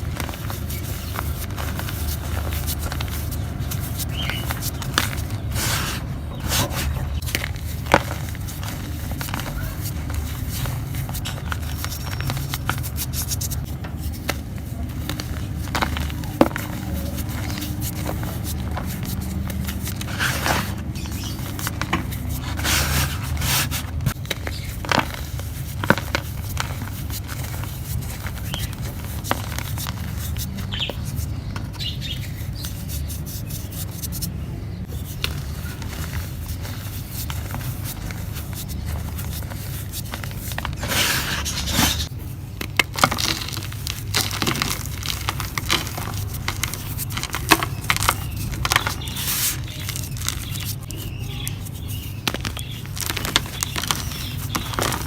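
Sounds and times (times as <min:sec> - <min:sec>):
dry mud crumbling by hand: 0:00.0 - 0:33.1, 0:33.9 - 0:55.0.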